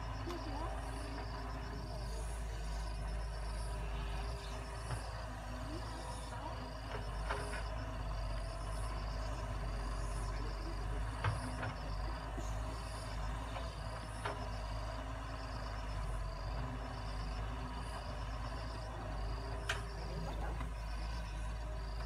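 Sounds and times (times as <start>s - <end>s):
diesel engine running: 0.0s - 22.0s
insects chirping: 0.0s - 22.0s.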